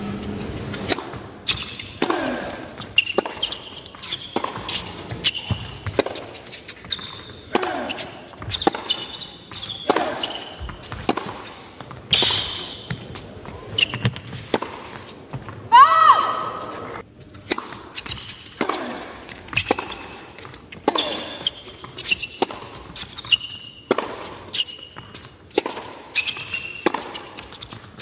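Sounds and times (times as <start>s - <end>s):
rackets hitting tennis ball: 0.7s - 15.7s, 16.6s - 28.0s
sneakers squeaking on court: 0.7s - 15.7s, 16.5s - 28.0s
tennis ball bouncing: 0.8s - 15.7s, 17.2s - 28.0s.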